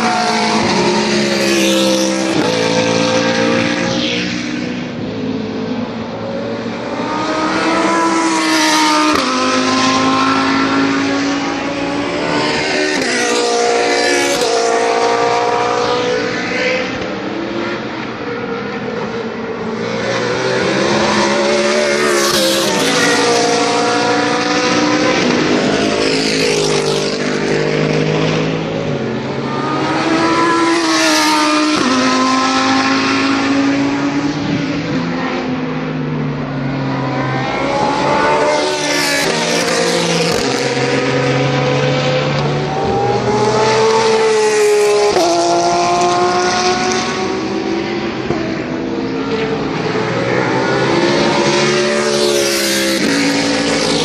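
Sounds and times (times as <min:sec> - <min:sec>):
race cars at full throttle: 0:00.0 - 0:54.0.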